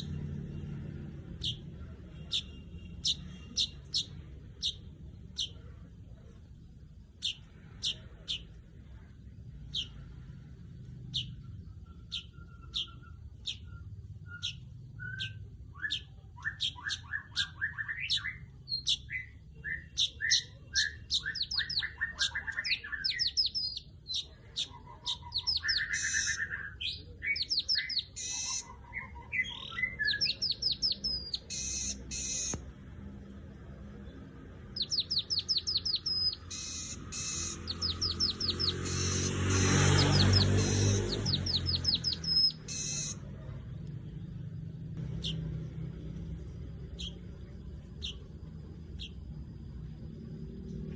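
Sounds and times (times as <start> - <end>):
bird chirping and chattering: 0.0 - 6.3, 7.1 - 32.8, 33.7 - 43.3, 45.0 - 50.9.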